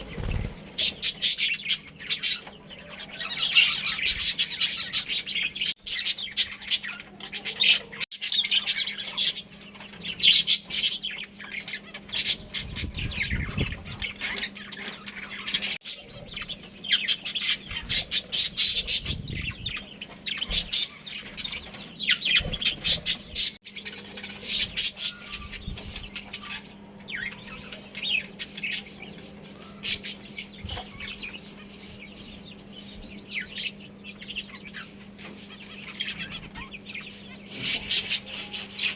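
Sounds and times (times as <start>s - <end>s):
budgerigars chattering: 0.1s - 38.9s.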